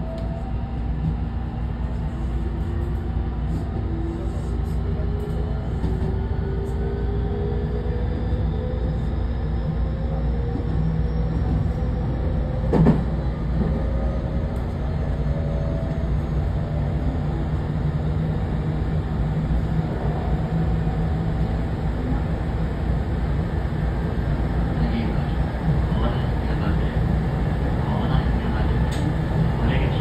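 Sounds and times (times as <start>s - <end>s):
train rolling rumble: 0.0s - 30.0s.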